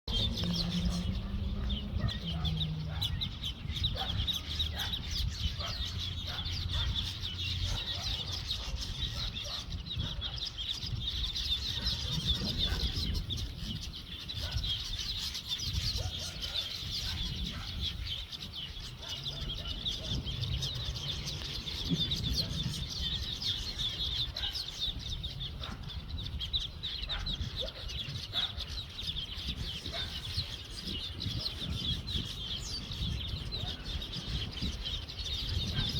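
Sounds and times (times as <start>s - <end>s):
chorus of birds chattering: 0.1s - 35.9s
lower bird calls: 0.1s - 35.9s.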